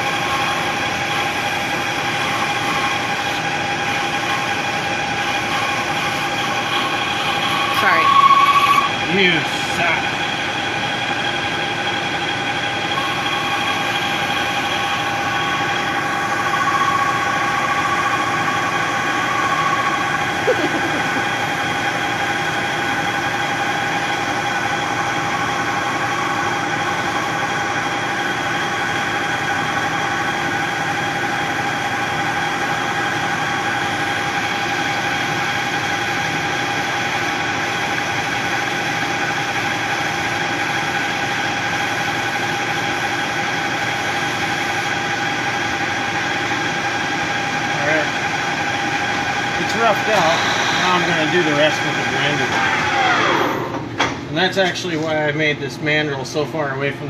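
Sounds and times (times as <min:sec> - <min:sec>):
metal lathe motor hum: 0:00.0 - 0:54.2.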